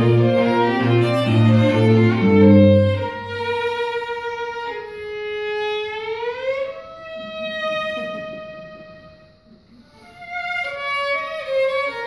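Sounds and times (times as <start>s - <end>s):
low cello notes: 0.0s - 12.0s
string quartet playing: 0.0s - 12.0s.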